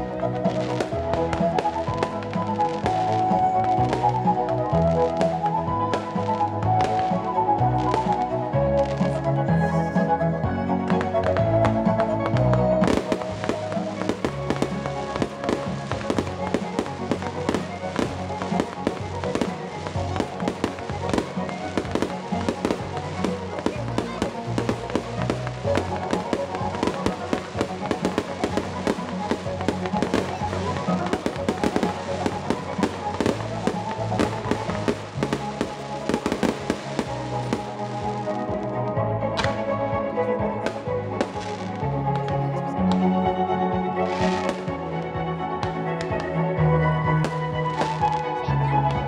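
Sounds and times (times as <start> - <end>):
fireworks bangs and crackles: 0.0 - 9.2, 10.8 - 43.0, 44.0 - 46.4, 47.0 - 49.0
music playing: 0.0 - 49.0.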